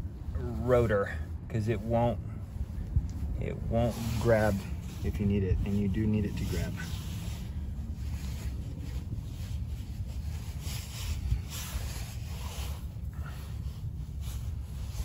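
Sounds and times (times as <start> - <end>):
low steady rumble: 0.0 - 15.0
rubbing and scraping on brake parts: 0.0 - 15.0.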